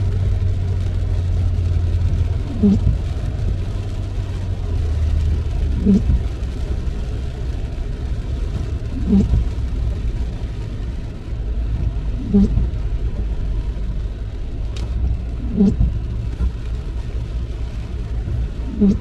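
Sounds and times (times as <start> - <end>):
car road rumble: 0.0 - 19.0
rain hiss: 0.0 - 19.0
windshield wipers groaning: 0.0 - 19.0.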